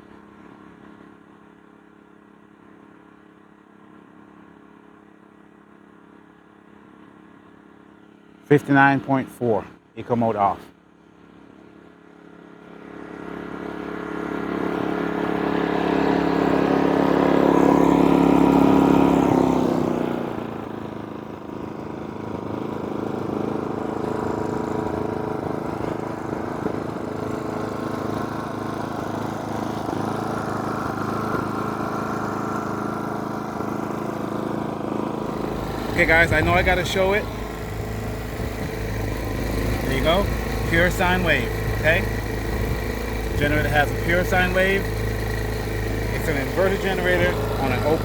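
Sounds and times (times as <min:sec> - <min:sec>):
generator engine running: 0:00.0 - 0:48.0.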